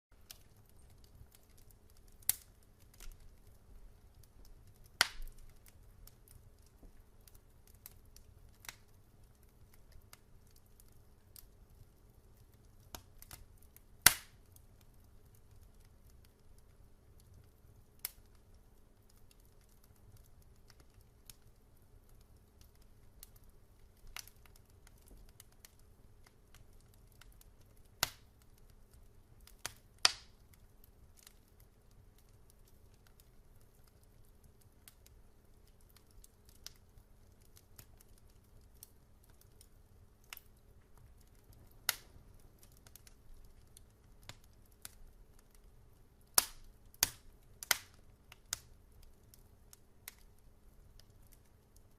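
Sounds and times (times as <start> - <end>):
faint low steady background: 0.1 - 51.9
wood fire crackling: 0.1 - 51.9.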